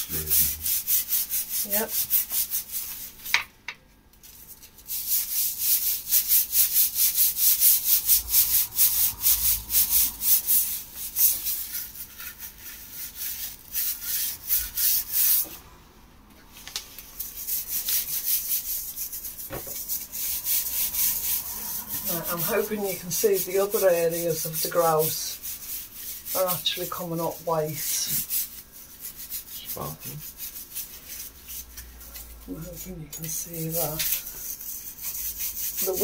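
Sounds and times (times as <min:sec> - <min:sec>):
brush scrubbing tile grout: 0:00.0 - 0:03.4, 0:04.2 - 0:15.6, 0:17.0 - 0:36.0.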